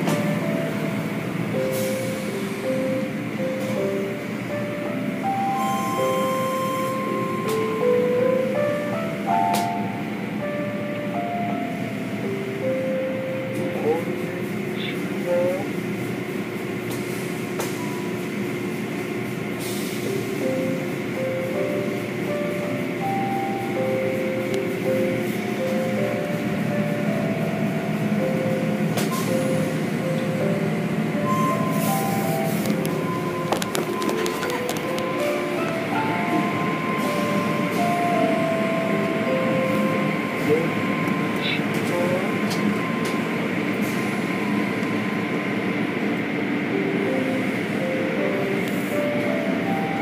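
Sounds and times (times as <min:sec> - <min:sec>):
slow music of held notes: 0:00.0 - 0:13.9, 0:19.6 - 0:44.9, 0:46.0 - 0:50.0
steady mechanical rumble: 0:00.0 - 0:50.0.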